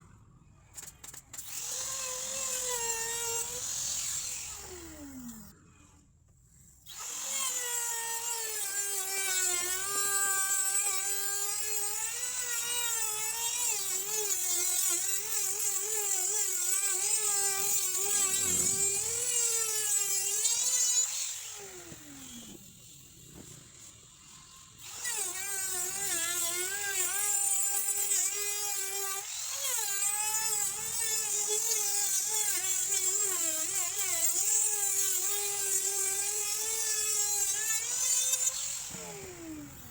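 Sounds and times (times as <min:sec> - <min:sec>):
power tool cutting wood: 0:00.8 - 0:05.6, 0:06.8 - 0:39.9.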